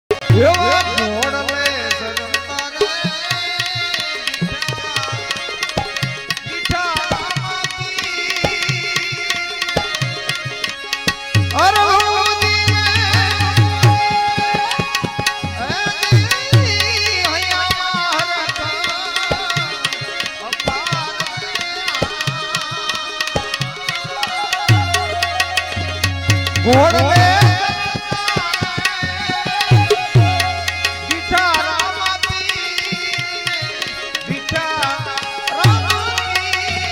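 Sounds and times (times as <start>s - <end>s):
tabla playing busy rhythm: 0.1s - 36.9s.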